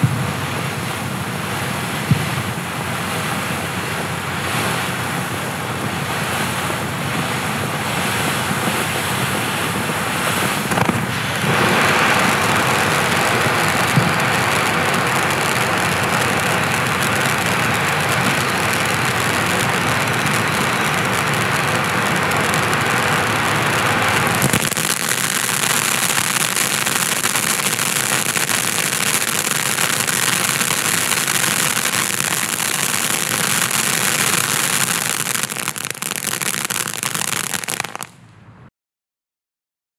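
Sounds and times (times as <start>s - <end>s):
firework fountain hissing: 0.0s - 38.2s.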